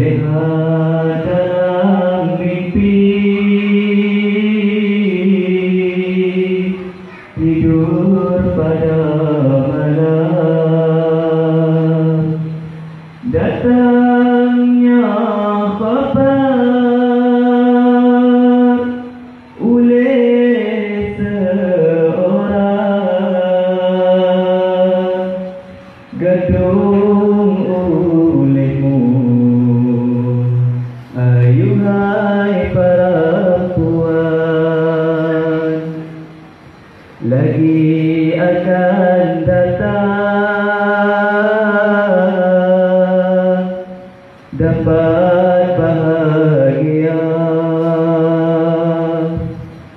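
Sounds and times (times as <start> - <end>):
person chanting: 0.0 - 36.5, 37.2 - 49.9.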